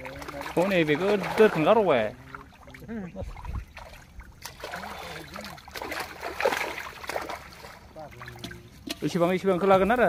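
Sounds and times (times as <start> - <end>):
fish splashing in water: 0.0 - 9.0.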